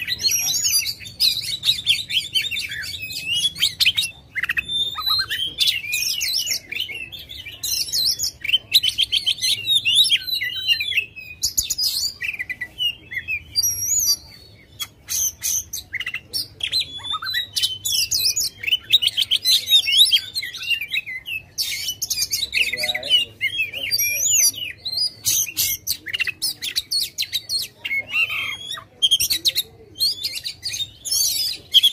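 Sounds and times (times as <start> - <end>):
songbird whistling and trilling: 0.0 - 31.9.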